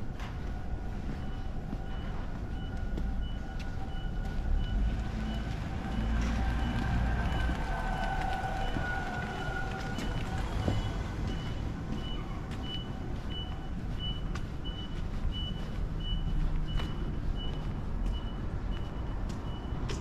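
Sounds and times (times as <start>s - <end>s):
low rumble of street traffic: 0.0s - 20.0s
reversing alarm beeping: 0.0s - 20.0s.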